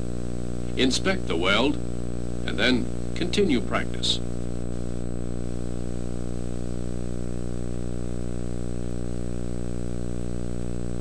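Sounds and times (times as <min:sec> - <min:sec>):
electrical hum: 0:00.0 - 0:11.0
faint high whine: 0:00.0 - 0:11.0.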